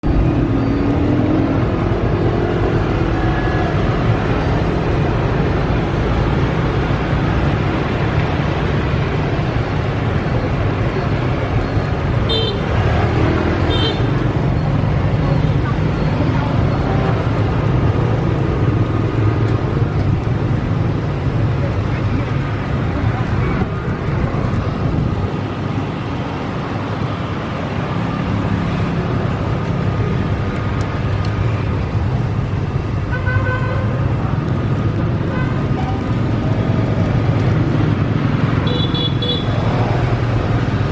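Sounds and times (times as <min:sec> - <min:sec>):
steady loud rumbling: 0:00.0 - 0:40.9
street traffic hum: 0:00.0 - 0:40.9.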